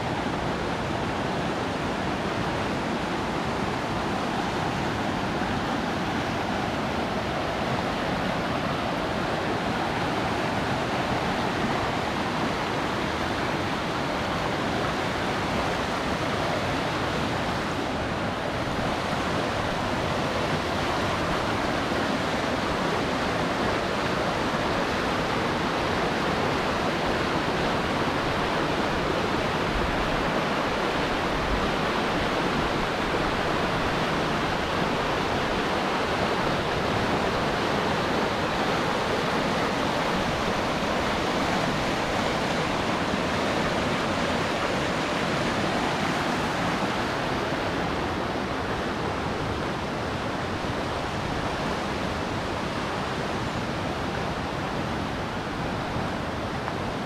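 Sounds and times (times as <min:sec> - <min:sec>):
river rapid rushing over rocks: 0:00.0 - 0:57.0.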